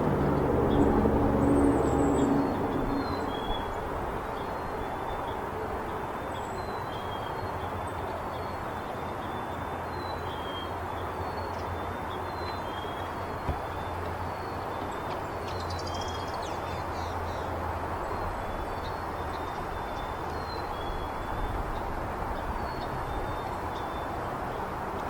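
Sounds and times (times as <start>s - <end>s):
highway traffic rushing: 0.0s - 25.0s.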